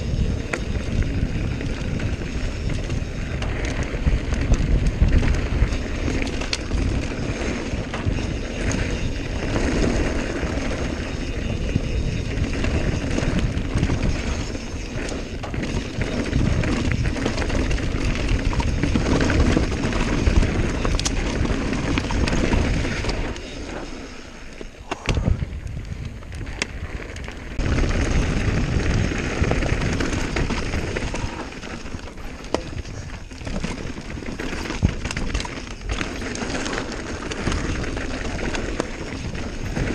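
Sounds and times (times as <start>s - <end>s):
bike knocks and rattles: 0.0s - 23.7s, 24.6s - 39.9s
bike tyre crunch on dirt: 0.0s - 39.9s
wind buffeting microphone: 0.0s - 39.9s.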